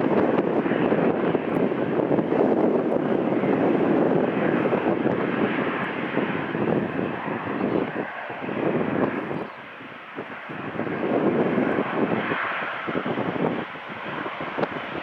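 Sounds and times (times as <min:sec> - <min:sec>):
airliner engines running: 0:00.0 - 0:15.0.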